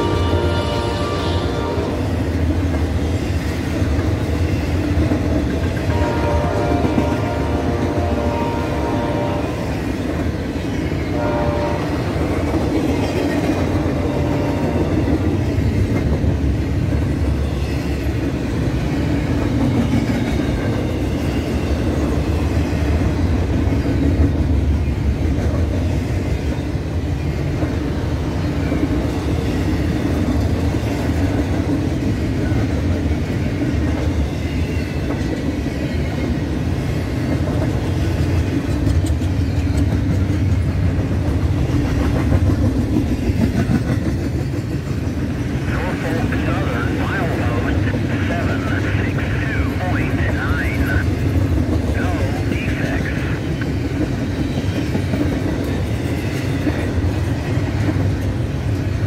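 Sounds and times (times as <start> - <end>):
freight train rolling past: 0.0 - 59.0
steel wheels on rails: 1.6 - 48.1, 50.9 - 59.0.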